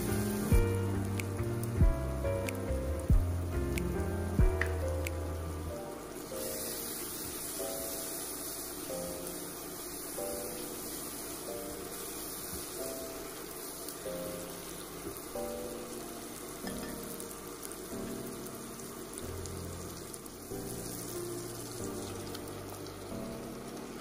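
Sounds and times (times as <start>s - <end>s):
paste sizzling in oil: 0.0s - 1.8s, 4.8s - 24.0s
slow background music: 0.0s - 24.0s.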